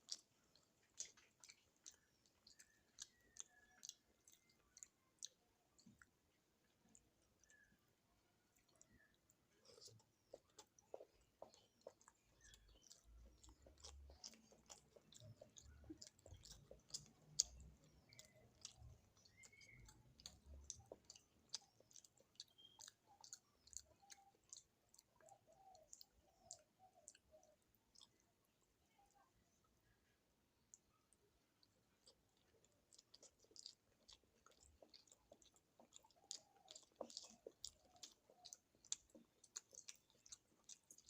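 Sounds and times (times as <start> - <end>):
close-miked chewing: 0.0 - 41.0.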